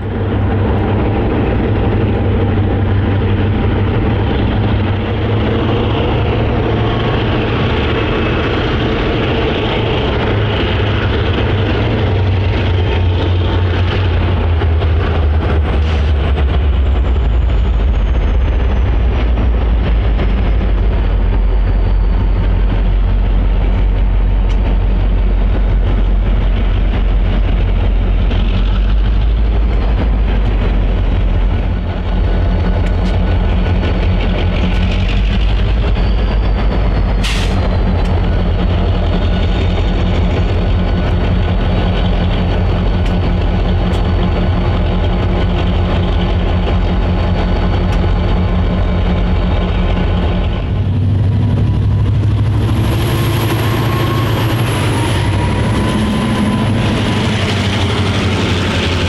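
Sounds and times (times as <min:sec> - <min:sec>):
diesel locomotives rumbling under load: 0:00.0 - 0:59.0.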